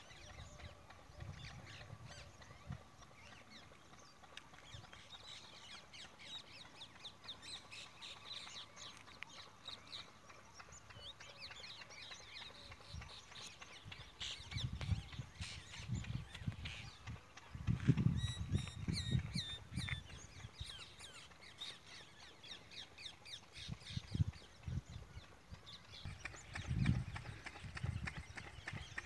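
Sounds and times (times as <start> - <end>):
wind buffeting microphone: 0.0 - 6.0, 10.5 - 21.6, 22.4 - 29.0
small birds chirping: 0.0 - 29.0.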